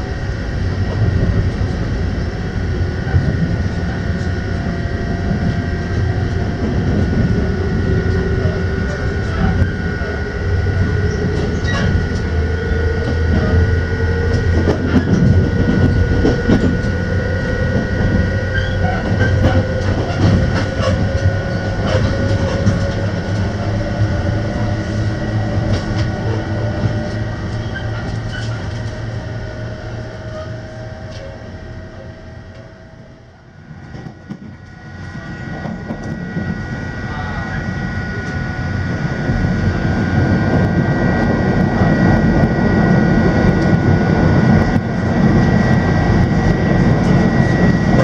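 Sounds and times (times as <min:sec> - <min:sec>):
rumble of wheels on rail: 0:00.0 - 0:48.0.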